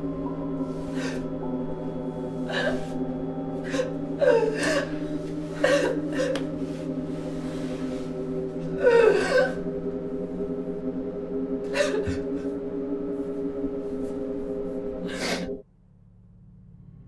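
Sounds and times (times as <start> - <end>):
low music drone: 0.0 - 17.0
woman sobbing: 0.4 - 15.6.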